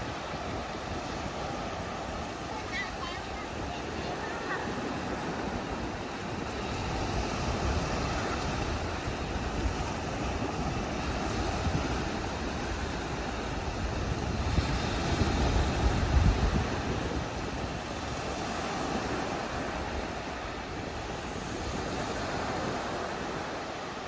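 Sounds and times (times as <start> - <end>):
wind buffeting microphone: 0.0 - 23.7
sea waves washing on beach: 0.0 - 24.0.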